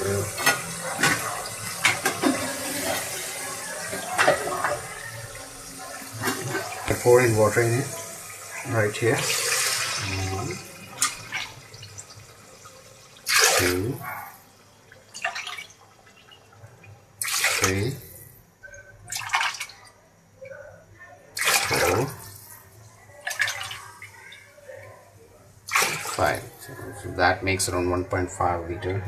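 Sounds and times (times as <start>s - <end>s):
water pouring and splashing into pot: 0.0s - 19.9s, 21.4s - 24.8s, 25.6s - 27.0s.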